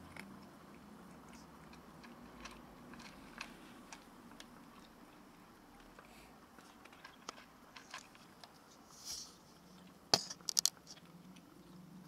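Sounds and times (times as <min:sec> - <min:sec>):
cat crunching dry kibble: 0:00.0 - 0:08.6, 0:09.6 - 0:11.6.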